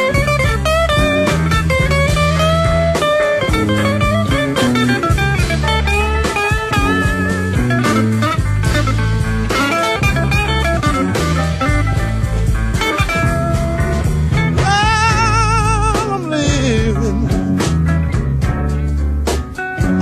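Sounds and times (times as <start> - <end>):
bass and band: 0.0 - 20.0
electric blues lead guitar: 0.0 - 20.0.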